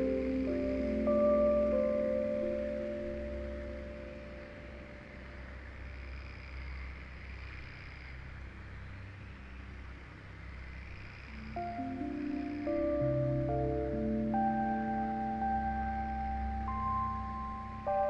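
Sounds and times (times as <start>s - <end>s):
synth pad notes: 0.0s - 7.7s, 8.4s - 18.0s.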